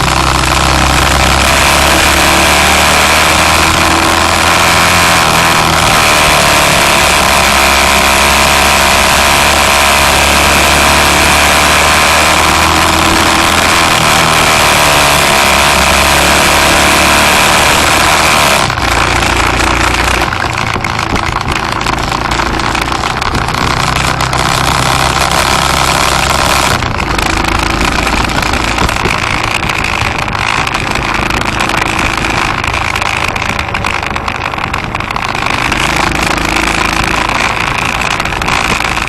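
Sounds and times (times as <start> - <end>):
road and wind noise: 0.0 - 39.0
vehicle engine drone: 0.0 - 39.0.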